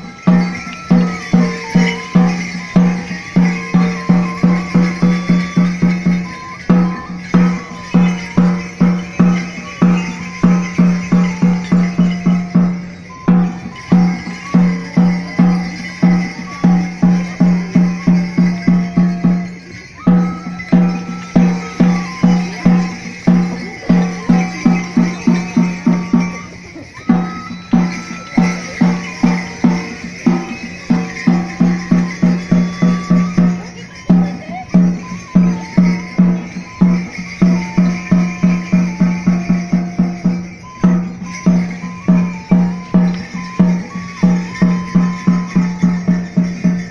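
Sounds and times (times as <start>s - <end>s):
jingling rattling percussion: 0.0s - 46.9s
pitched drum beating: 0.0s - 46.9s
thin wavering melody: 0.0s - 46.9s.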